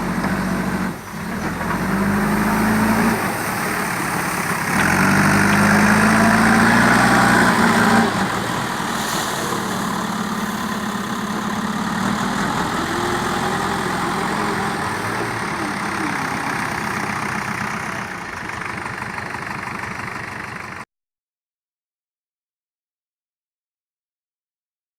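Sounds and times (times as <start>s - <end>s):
diesel engine running: 0.0s - 20.8s.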